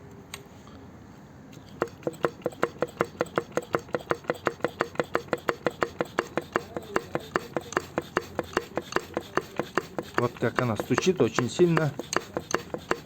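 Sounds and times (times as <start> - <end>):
engine connecting rod knocking: 1.6 - 13.0.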